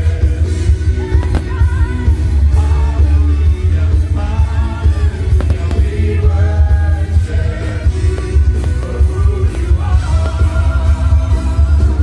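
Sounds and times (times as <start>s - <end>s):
heavy steady bass: 0.0s - 12.0s
song with singing over loudspeakers: 0.0s - 12.0s.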